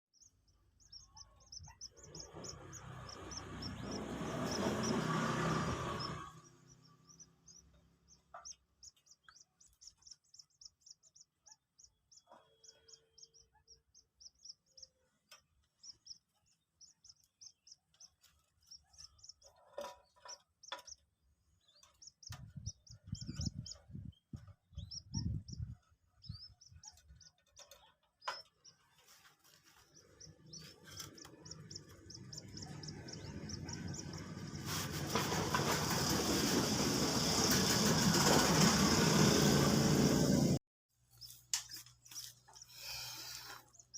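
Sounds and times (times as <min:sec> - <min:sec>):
bird chick peeping: 0:00.2 - 0:35.0, 0:41.2 - 0:43.9.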